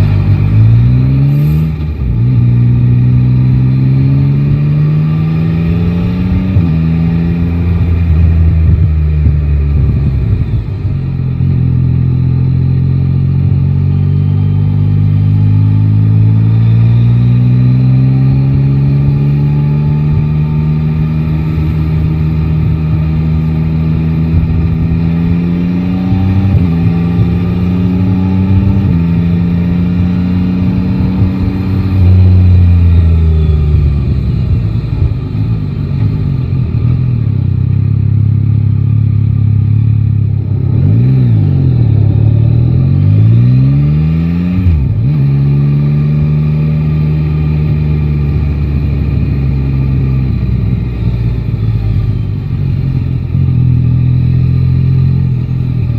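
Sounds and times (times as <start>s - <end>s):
motorcycle engine running: 5.4s - 55.9s.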